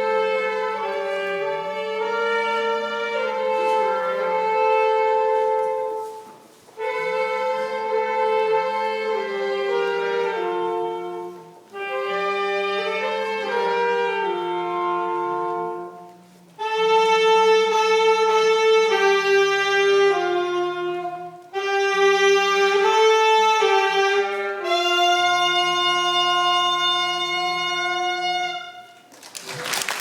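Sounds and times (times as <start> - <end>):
wind instruments playing hymn melody: 0.0 - 30.0.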